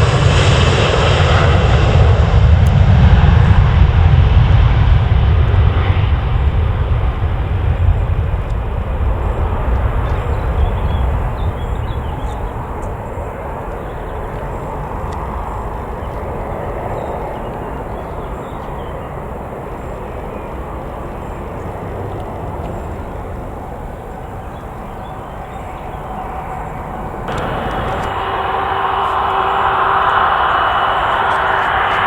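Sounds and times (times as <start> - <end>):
jet engine rumble: 0.0 - 32.0.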